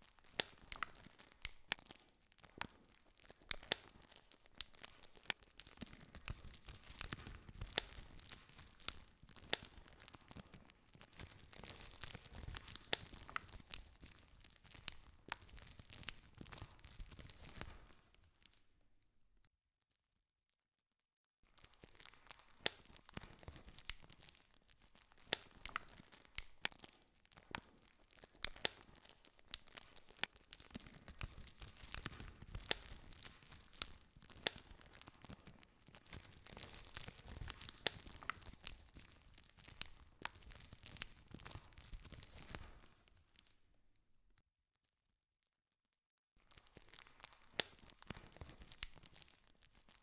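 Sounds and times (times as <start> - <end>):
campfire crackling: 0.2 - 18.0, 22.0 - 43.1, 46.6 - 50.0.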